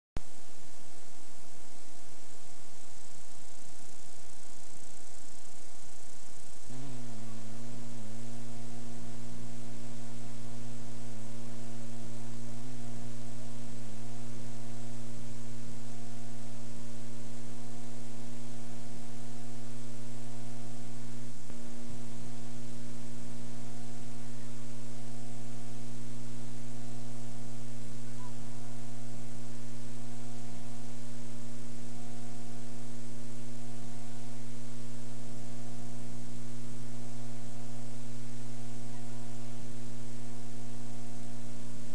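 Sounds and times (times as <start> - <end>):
electrical mains hum: 0.2 - 41.9
faint tape hiss: 0.2 - 41.9.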